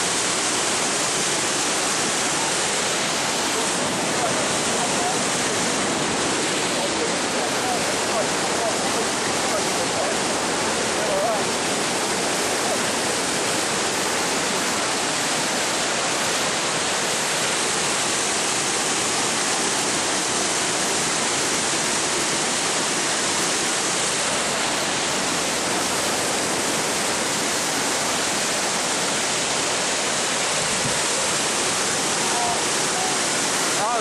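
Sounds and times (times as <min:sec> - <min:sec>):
water rushing over rocks: 0:00.0 - 0:34.0.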